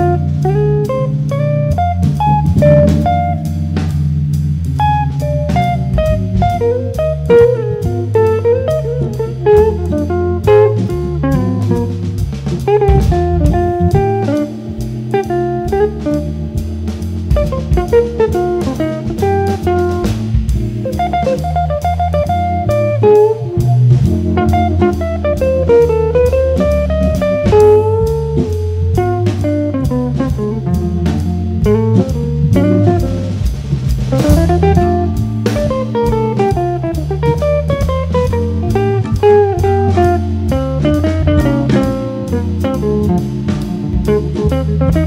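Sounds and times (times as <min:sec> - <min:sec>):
drum kit with cymbals: 0:00.0 - 0:45.0
electric guitar: 0:00.0 - 0:45.0
jazz organ: 0:00.0 - 0:45.0.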